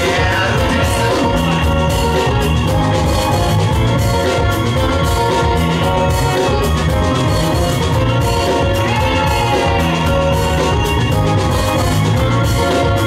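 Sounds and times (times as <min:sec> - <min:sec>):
loud music with drum beat: 0:00.0 - 0:13.0.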